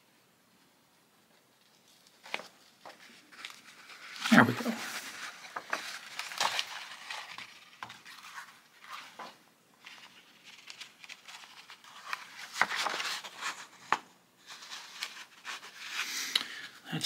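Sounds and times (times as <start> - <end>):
paper crinkles: 1.3 - 16.7
paper pages rustling: 1.3 - 16.8.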